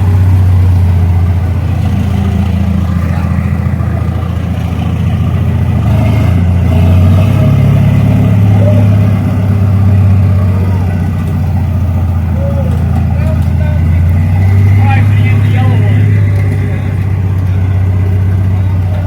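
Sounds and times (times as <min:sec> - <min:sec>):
forklift engine running: 0:00.0 - 0:19.0.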